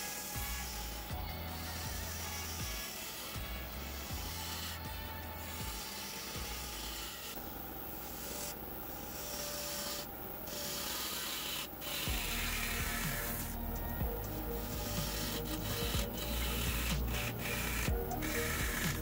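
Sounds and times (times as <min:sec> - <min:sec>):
gouge scraping wood on lathe: 0:00.0 - 0:07.4, 0:08.1 - 0:19.0.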